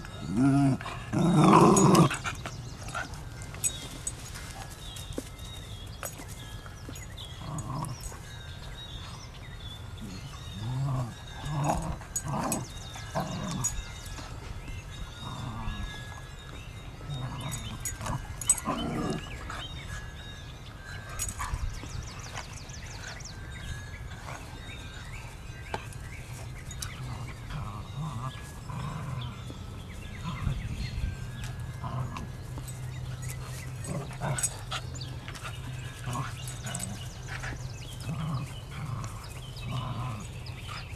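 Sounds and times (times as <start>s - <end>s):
dogs growling: 0.0s - 4.8s, 6.8s - 40.9s.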